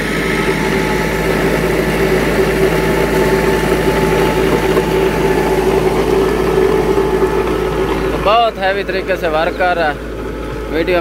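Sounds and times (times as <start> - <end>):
rotavator churning soil: 0.0 - 11.0
tractor diesel engine under load: 0.0 - 11.0.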